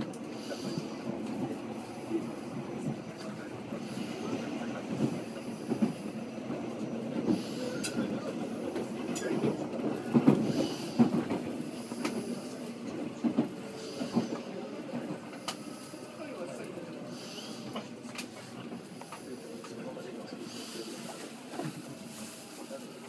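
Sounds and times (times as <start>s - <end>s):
wheels clacking on rails: 0.0s - 19.8s
train rumbling: 0.0s - 23.0s.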